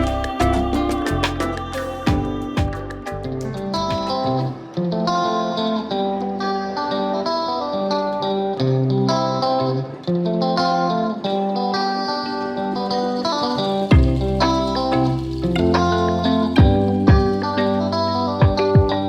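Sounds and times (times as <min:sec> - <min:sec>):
plucked guitar music: 0:00.0 - 0:19.0.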